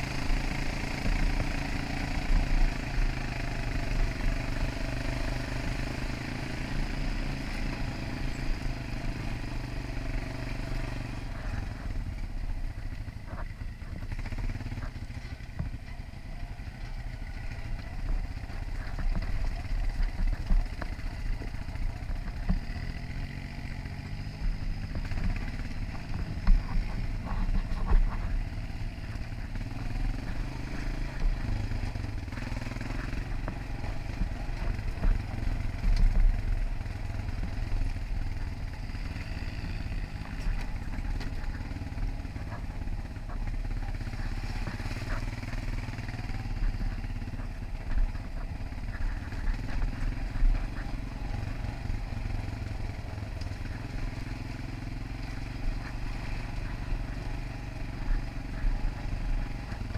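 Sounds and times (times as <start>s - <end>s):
quad bike engine running: 0.0s - 59.9s
knocks and rattles over bumps: 11.3s - 59.9s.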